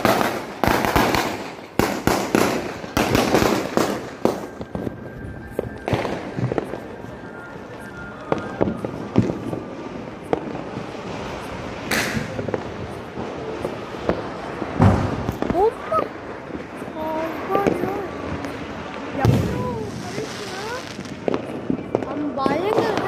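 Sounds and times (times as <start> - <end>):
firecrackers exploding: 0.0 - 23.0.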